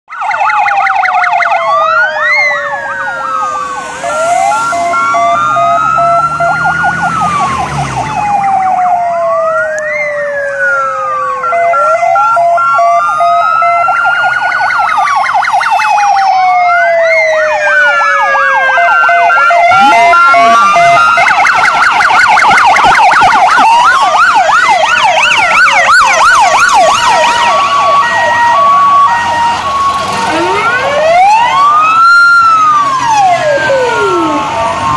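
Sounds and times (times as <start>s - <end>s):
fire engine sirens wailing: 0.1s - 34.9s
siren fast yelp: 0.1s - 34.9s
two-tone hi-lo siren: 0.1s - 34.9s.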